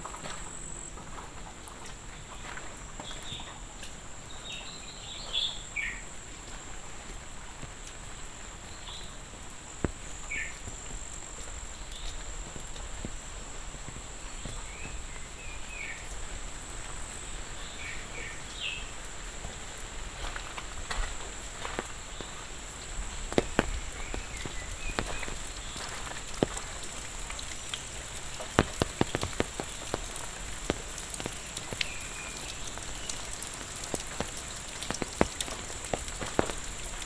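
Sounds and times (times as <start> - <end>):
faint rain patter: 0.0 - 37.0
insects droning: 0.0 - 37.0.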